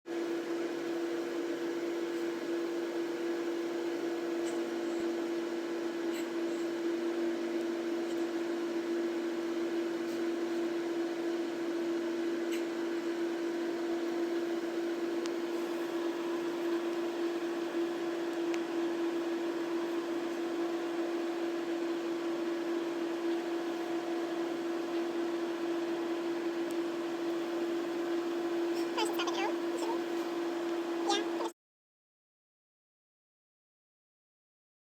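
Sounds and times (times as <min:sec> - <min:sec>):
microwave oven humming: 0:00.1 - 0:31.5.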